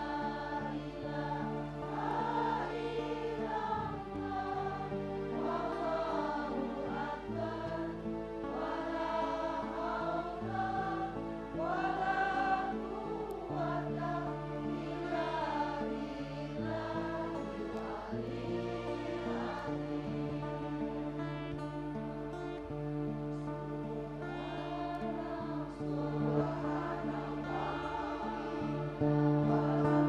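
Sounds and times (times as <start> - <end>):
group chanting in unison: 0.0 - 21.4, 24.4 - 30.0.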